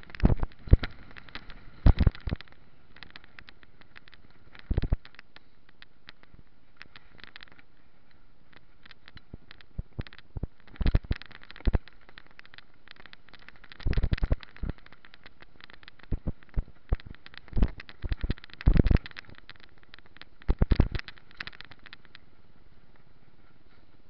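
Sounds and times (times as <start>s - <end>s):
bike rattles and knocks: 0.0s - 22.4s.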